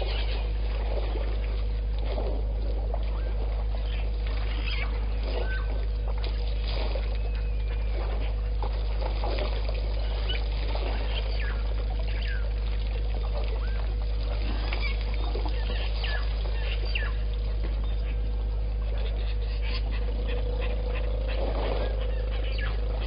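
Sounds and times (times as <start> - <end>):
steady low hum: 0.0 - 23.0
water trickling and splashing: 0.0 - 23.0.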